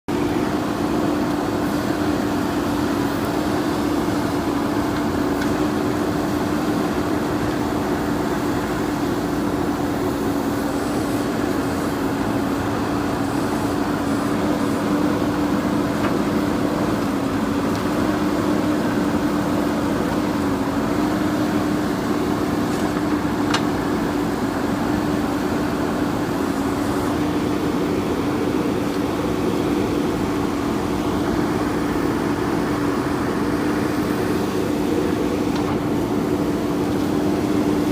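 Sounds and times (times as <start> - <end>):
backhoe diesel engine running: 0.1 - 37.9.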